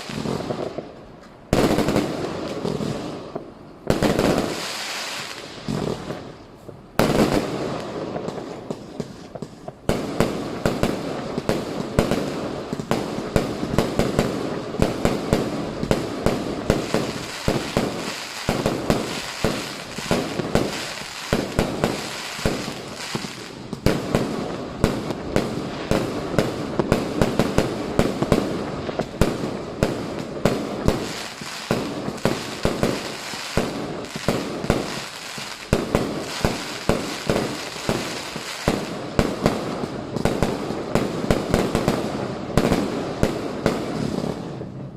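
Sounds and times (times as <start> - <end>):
fireworks and firecrackers bangs: 0.0 - 44.9.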